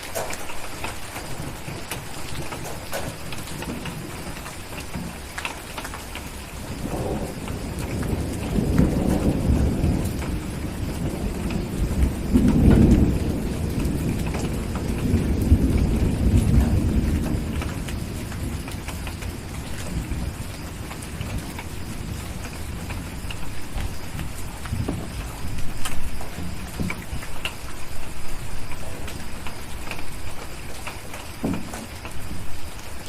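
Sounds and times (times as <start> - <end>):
steady rain: 0.0 - 33.0
thunder rolling: 0.0 - 33.0.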